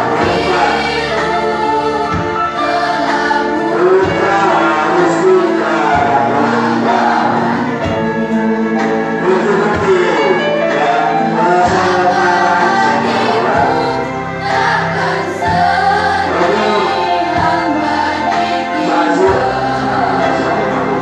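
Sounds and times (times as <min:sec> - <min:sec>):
girls' choir singing: 0:00.0 - 0:10.0, 0:10.7 - 0:21.0.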